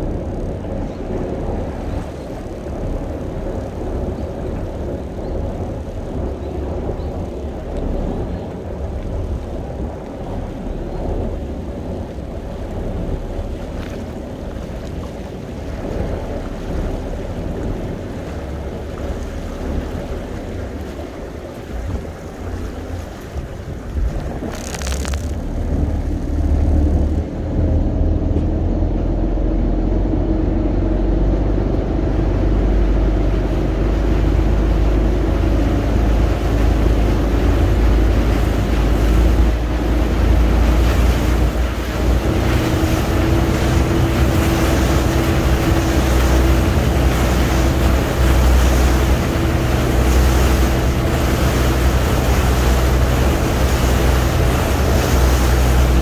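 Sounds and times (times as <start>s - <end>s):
boat engine running: 0.0s - 56.0s
water rushing from wake: 0.0s - 56.0s
wind on microphone: 0.0s - 56.0s.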